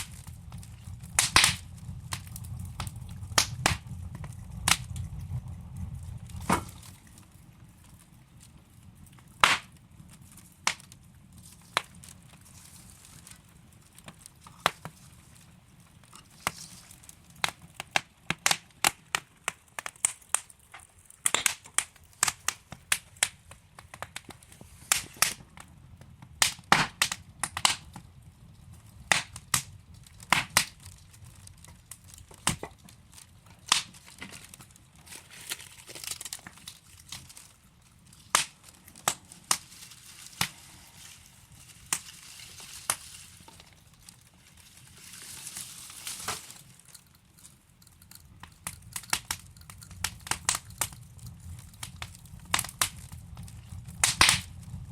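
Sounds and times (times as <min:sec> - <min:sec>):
faint fire hiss: 0:00.0 - 0:54.9
wood fire crackling and popping: 0:00.0 - 0:54.9.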